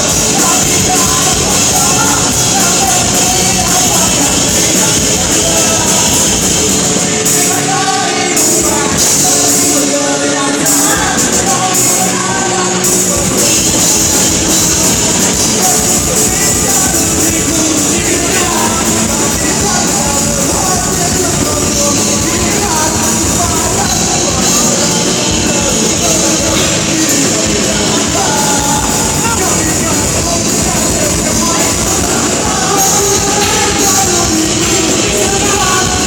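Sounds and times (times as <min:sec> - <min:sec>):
person singing: 0:00.0 - 0:36.0
rock band playing live: 0:00.0 - 0:36.0.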